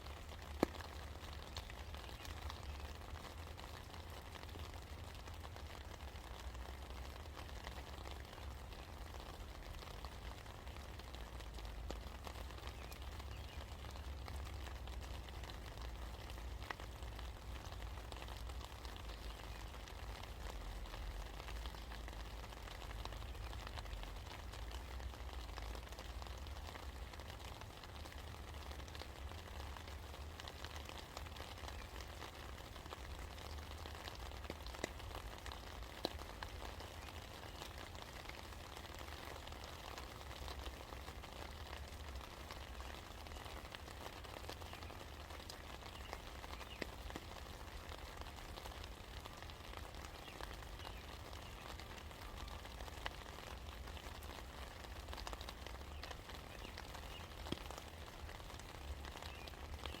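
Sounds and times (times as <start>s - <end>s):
rain patter: 0.0s - 60.0s.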